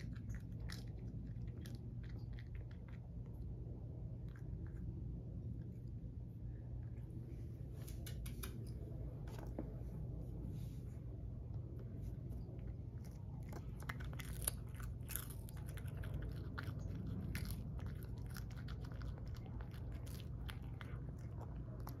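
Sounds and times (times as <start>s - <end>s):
cat crunching and chewing: 0.0s - 7.4s, 11.5s - 22.0s.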